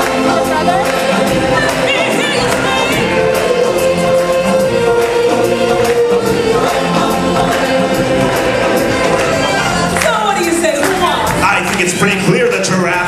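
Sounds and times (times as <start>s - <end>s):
choir singing: 0.0s - 12.6s
musical accompaniment: 0.0s - 13.0s.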